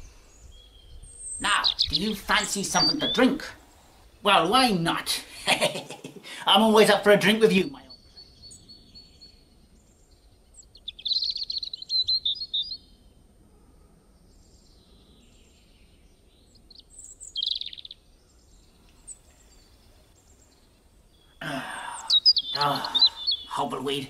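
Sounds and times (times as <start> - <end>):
faint background hiss: 0.0 - 24.0
songbirds chirping: 0.0 - 24.0.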